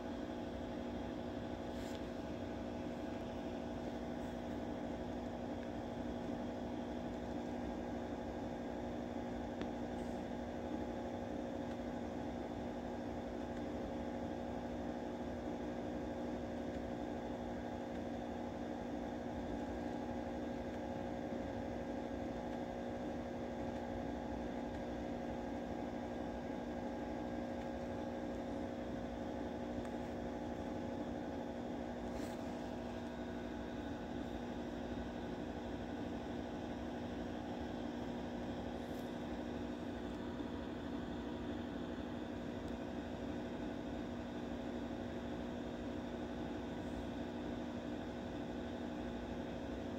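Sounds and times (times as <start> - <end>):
machine hum with fixed tones: 0.0 - 49.9.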